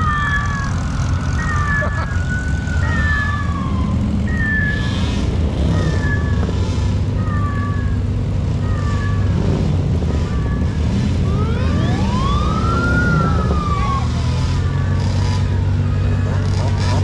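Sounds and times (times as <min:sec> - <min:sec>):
engine rumble: 0:00.0 - 0:17.0
siren winding up and down: 0:00.0 - 0:17.0.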